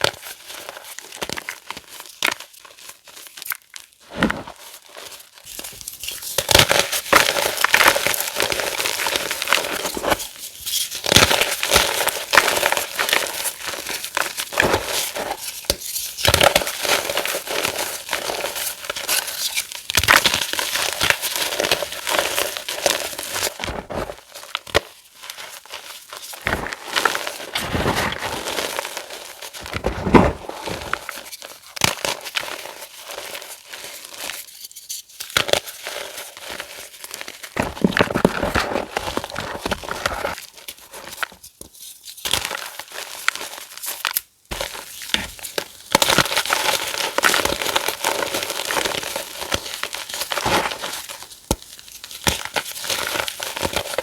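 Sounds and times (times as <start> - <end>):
chalk crunching: 4.0 - 54.0.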